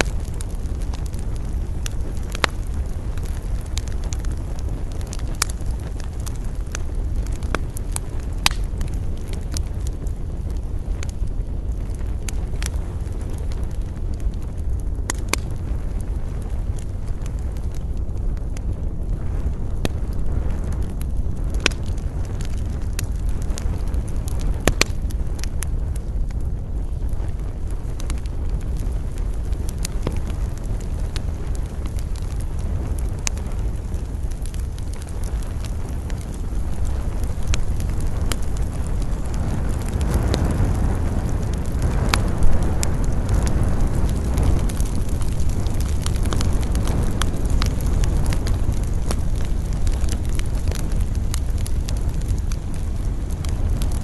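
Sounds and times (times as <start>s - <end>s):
campfire crackling: 0.0s - 54.0s
low rumble of wind: 0.0s - 54.0s
sharp pops of fire: 0.0s - 54.0s.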